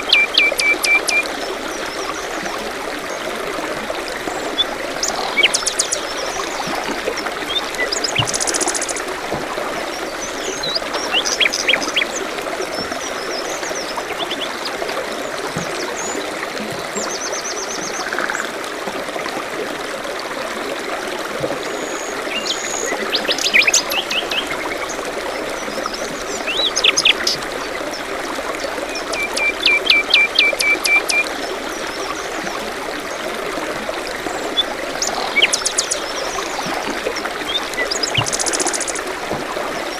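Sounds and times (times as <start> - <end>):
songbirds chirping: 0.0 - 18.5, 21.7 - 33.4, 34.0 - 39.9
stream trickling: 0.0 - 39.9.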